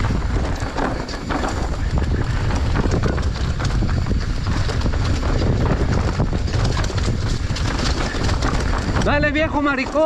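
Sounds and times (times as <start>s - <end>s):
bike rattling over rough ground: 0.0s - 10.0s
dirt bike engine: 0.0s - 10.0s
wind noise on microphone: 0.0s - 10.0s.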